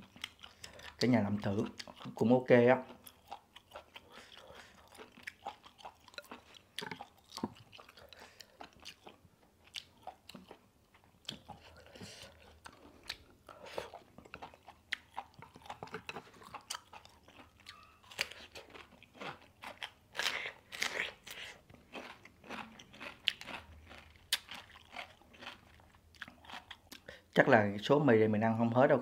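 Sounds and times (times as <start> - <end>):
person crunching and chewing: 0.0 - 27.3.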